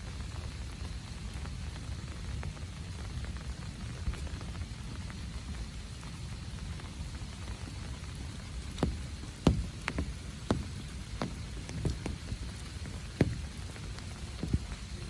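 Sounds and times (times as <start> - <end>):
raindrops plinking: 0.0 - 15.0
steady low rumble of rain: 0.0 - 15.0.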